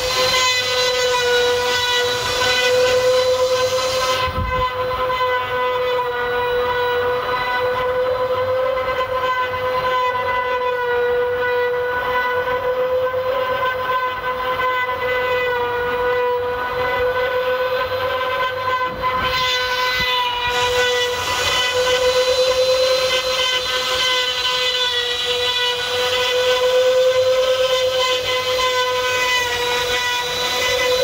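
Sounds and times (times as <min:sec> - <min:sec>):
wood router whining and cutting: 0:00.0 - 0:31.0.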